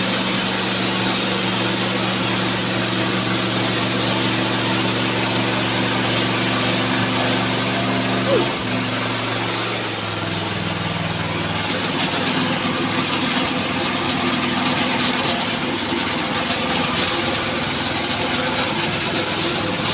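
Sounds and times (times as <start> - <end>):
sawmill motor humming and hissing: 0.0 - 19.9.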